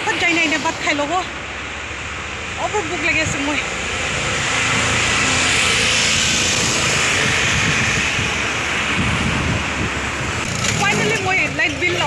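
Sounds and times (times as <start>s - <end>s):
vehicle road noise rushing: 0.0s - 12.0s.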